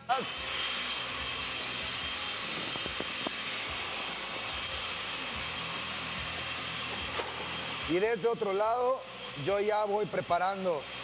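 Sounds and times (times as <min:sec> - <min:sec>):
blender running: 0:00.0 - 0:11.0
motor high whine: 0:00.0 - 0:11.0.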